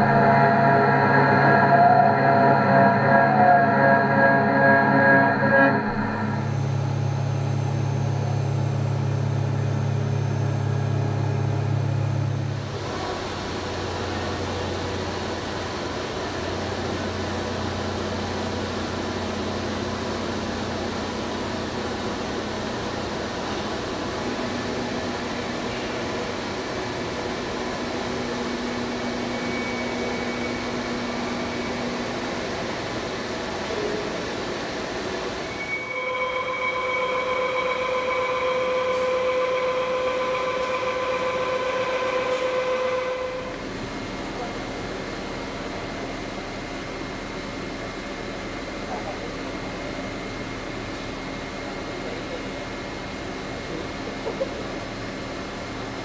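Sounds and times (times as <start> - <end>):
milling machine whirring: 0.0 - 48.0.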